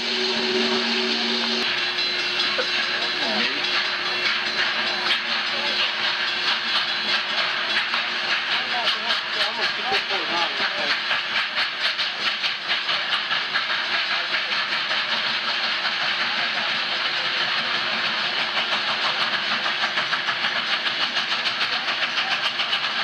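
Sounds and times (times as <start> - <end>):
steady hiss of steam: 0.0 - 23.0
steam locomotive exhaust chuffs: 0.0 - 23.0.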